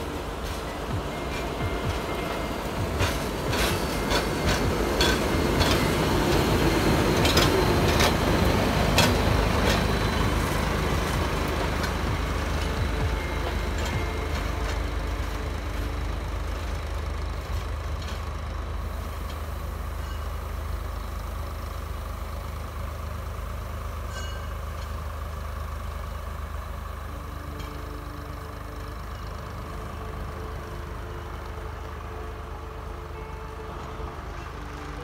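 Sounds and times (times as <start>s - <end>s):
diesel locomotive rumbling: 0.0s - 35.0s
steady higher tones: 0.0s - 35.0s.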